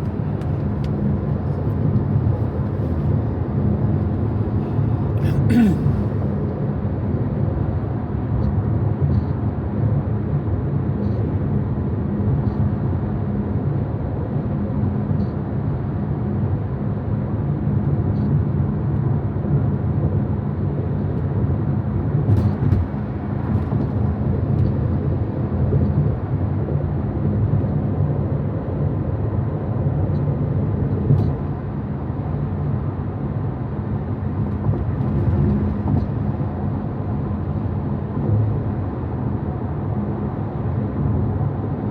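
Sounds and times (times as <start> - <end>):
road and tyre rumble in car cabin: 0.0 - 41.9.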